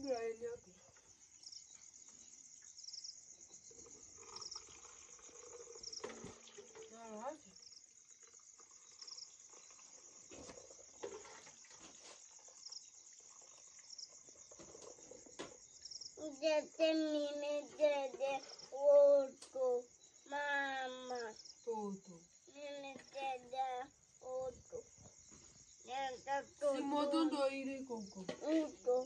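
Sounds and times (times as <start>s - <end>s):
cricket chirp: 0.0s - 29.0s
crickets trilling: 0.0s - 29.0s.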